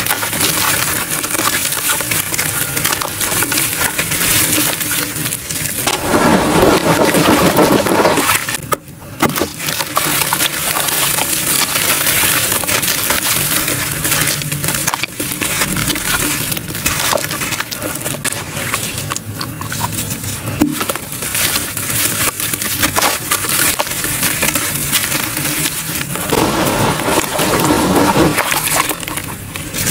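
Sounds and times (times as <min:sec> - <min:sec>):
wet charcoal crunching by hand: 0:00.0 - 0:29.9.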